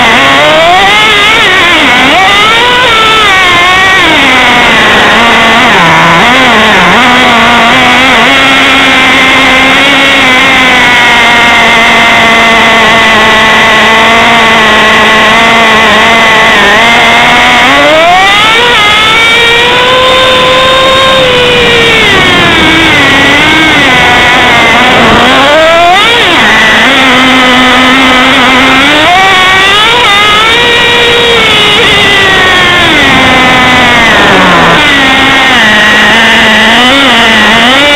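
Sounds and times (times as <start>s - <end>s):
rc truck engine buzzing: 0.0s - 37.9s.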